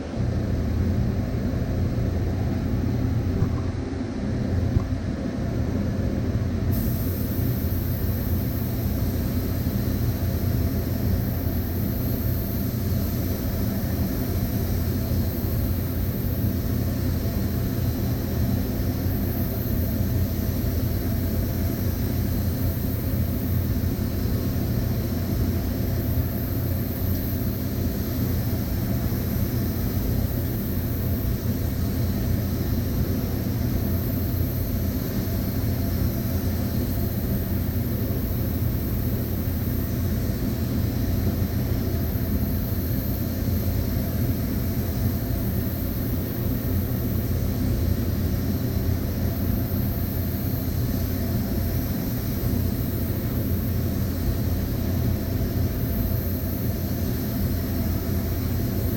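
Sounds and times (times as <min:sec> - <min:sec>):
low mechanical hum: 0:00.0 - 0:58.9
high hiss: 0:06.6 - 0:58.9.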